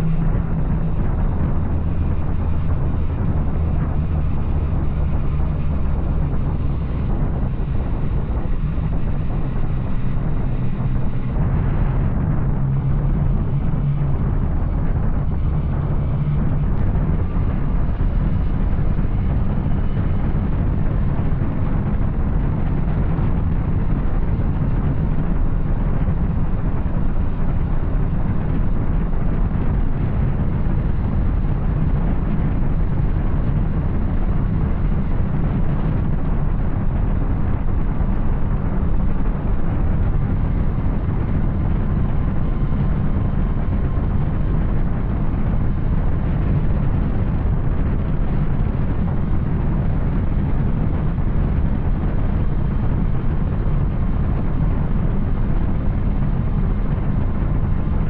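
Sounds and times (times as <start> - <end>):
rushing wind noise: 0.0 - 58.0.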